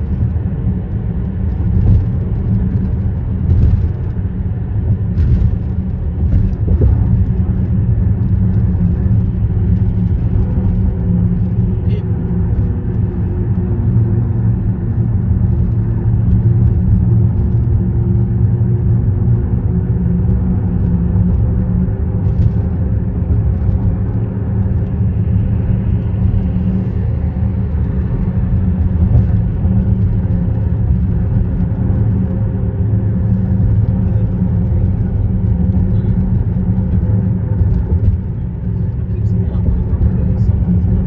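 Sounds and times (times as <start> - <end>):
traffic rumble on bridge: 0.0 - 41.0.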